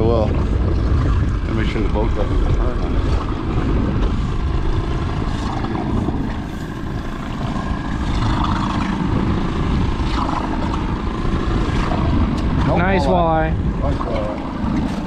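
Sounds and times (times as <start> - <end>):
boat motor running: 0.0 - 15.0
wind on microphone: 0.0 - 15.0.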